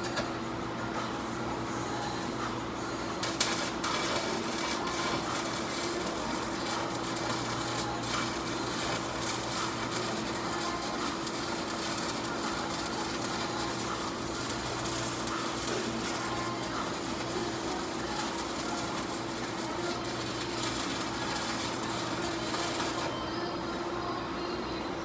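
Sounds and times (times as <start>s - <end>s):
welding arc crackling and sizzling: 0.0s - 23.6s
steady low hum: 0.0s - 25.0s.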